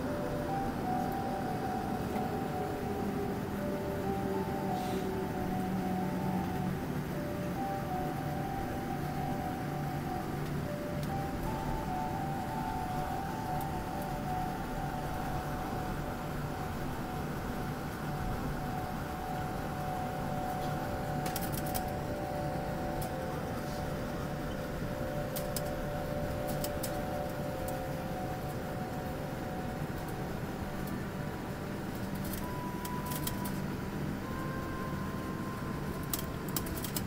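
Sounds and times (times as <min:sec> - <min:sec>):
jet engines rumbling at idle: 0:00.0 - 0:37.0
whining tones: 0:00.0 - 0:37.0.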